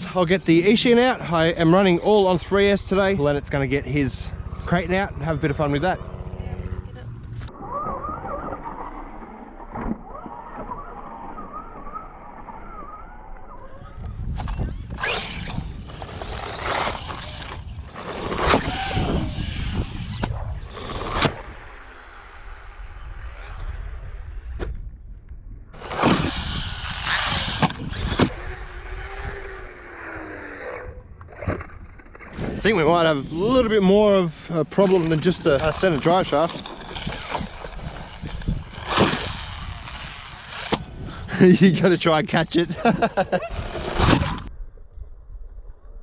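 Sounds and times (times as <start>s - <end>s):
electric rc car motor whining: 4.2s - 24.2s, 25.8s - 41.2s, 42.9s - 44.5s.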